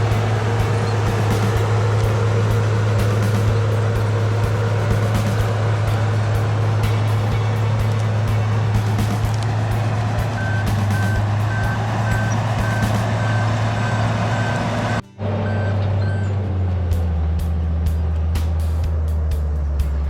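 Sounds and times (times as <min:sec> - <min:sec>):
reversing alarm beeping: 0:00.0 - 0:16.5
bulldozer diesel engine: 0:00.0 - 0:20.0.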